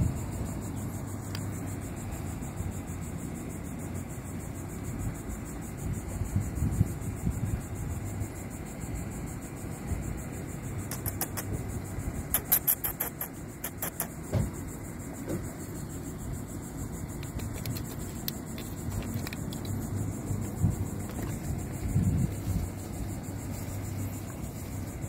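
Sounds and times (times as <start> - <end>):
low steady rumble: 0.0 - 10.9, 14.5 - 25.0.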